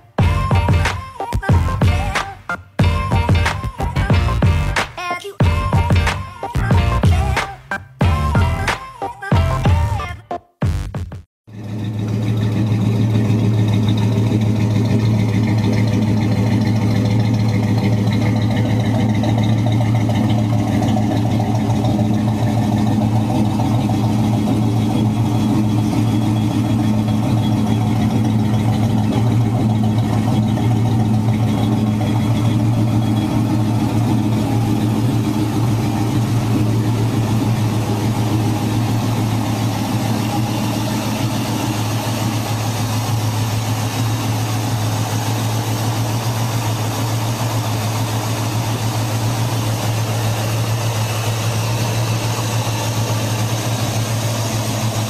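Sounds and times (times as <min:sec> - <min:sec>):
car engine idling: 0:00.0 - 0:10.1, 0:11.5 - 0:55.0.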